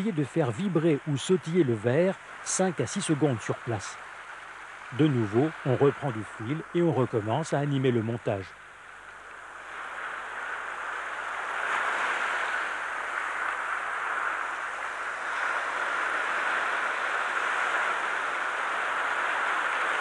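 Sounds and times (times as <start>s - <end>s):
small waves breaking on beach: 0.0s - 20.0s.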